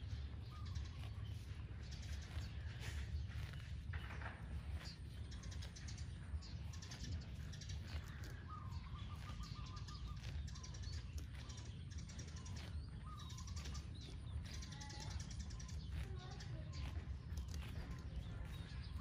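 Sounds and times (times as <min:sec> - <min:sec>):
bird chirping: 0:00.0 - 0:19.0
cow tearing and crunching grass: 0:00.0 - 0:19.0
low steady rumble: 0:00.0 - 0:19.0.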